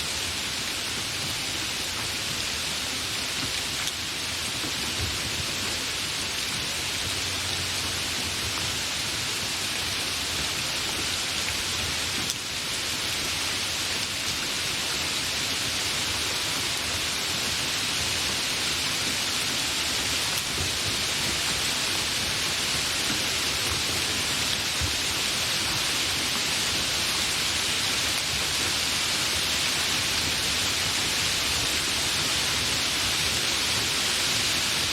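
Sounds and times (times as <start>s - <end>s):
light rain falling: 0.0s - 34.9s.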